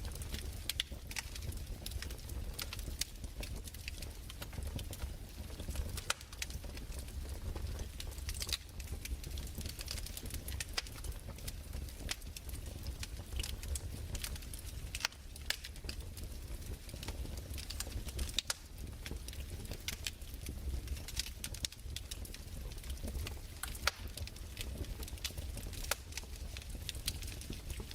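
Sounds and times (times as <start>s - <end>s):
fireplace crackling: 0.0s - 27.9s.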